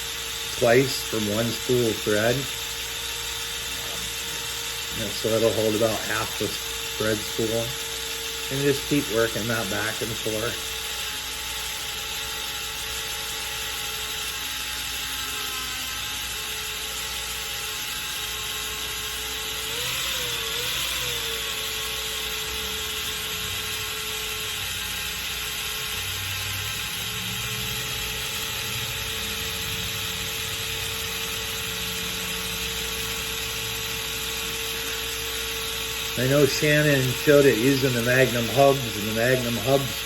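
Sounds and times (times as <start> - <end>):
cordless drill motor whine: 0.0 - 40.0.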